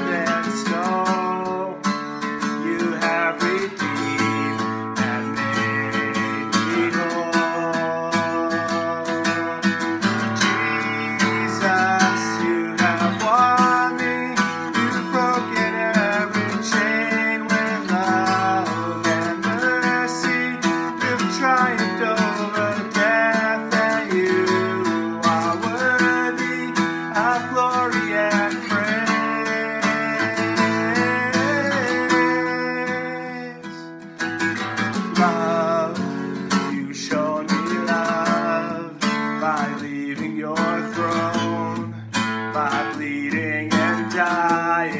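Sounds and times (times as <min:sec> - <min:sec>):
acoustic guitar strumming: 0:00.0 - 0:44.9
man singing: 0:00.0 - 0:44.9.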